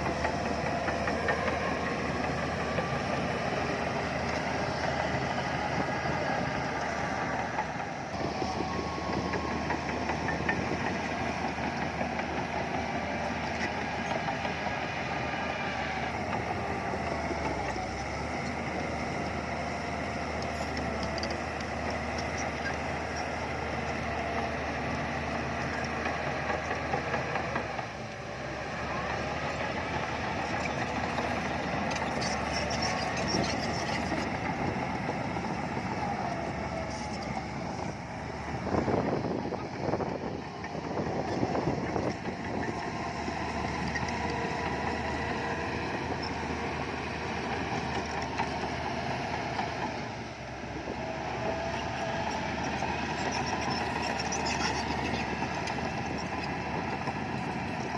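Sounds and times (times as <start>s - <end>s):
heavy diesel machinery running: 0.0s - 57.9s.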